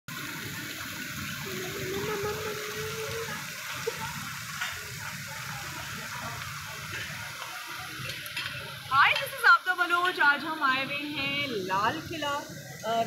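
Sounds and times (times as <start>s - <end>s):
restaurant courtyard hissing wash: 0.1s - 13.0s.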